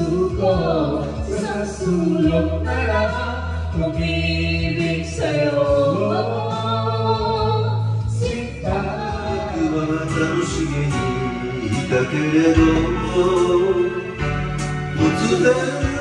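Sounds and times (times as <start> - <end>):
musical backing with bass notes: 0.0 - 16.0
person singing: 0.0 - 16.0.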